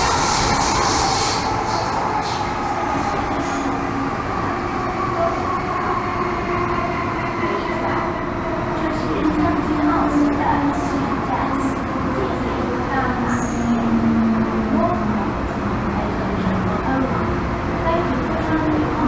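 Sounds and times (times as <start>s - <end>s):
train wheels rumbling: 0.0s - 17.2s.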